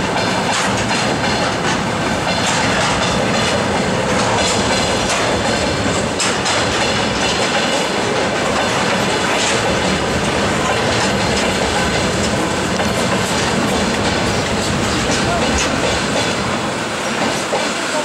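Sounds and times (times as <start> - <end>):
steel wheels rumbling on rails: 0.0 - 18.0
wheels clattering over rail joints: 0.0 - 18.0.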